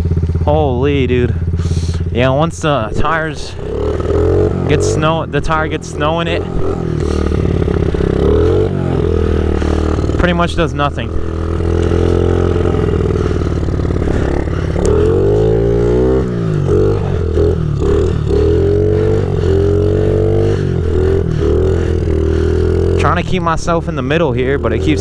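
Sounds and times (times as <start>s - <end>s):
small motorcycle engine revving: 0.0s - 25.0s.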